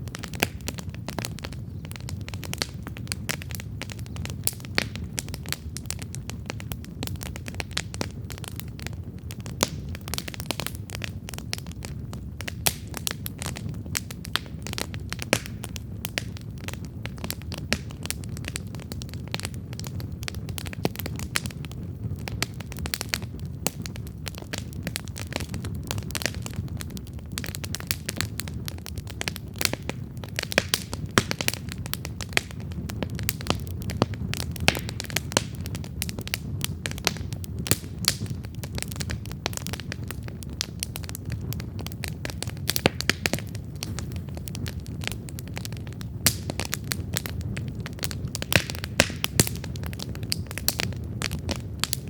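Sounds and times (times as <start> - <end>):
burning wood crackling and popping: 0.0 - 52.0
campfire flame rumble: 0.0 - 52.0.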